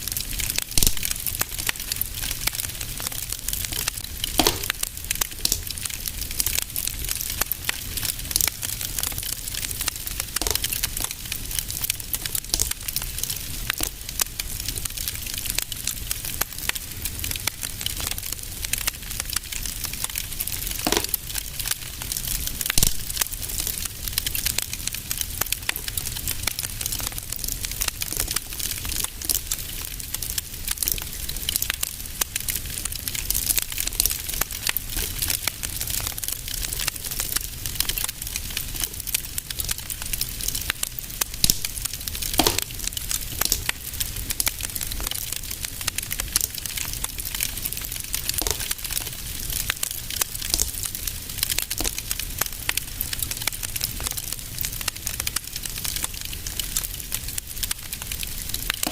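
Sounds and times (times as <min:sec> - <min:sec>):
fireplace fire crackling: 0:00.0 - 0:58.9
loud fire pops: 0:00.0 - 0:58.9.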